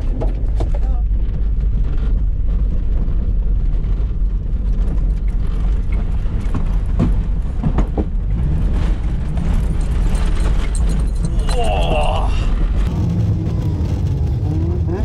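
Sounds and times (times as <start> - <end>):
car cabin rumble: 0.0 - 15.0
knocks and rattles: 0.0 - 15.0.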